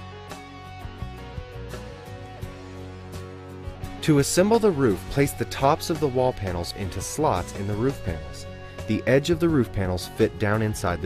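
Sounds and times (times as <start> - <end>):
light guitar music: 0.0 - 11.0.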